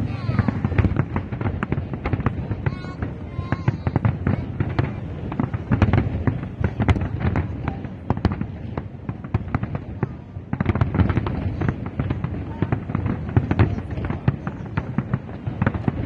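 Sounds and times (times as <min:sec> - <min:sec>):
fireworks cracks and bangs: 0:00.0 - 0:16.0.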